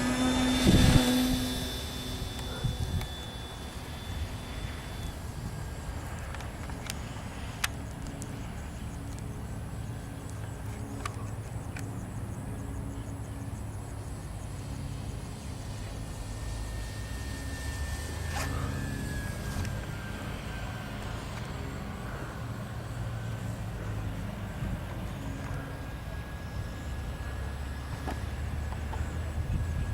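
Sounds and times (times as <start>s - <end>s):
engine sound effect drone: 0.0s - 29.9s
high whine: 0.0s - 29.9s.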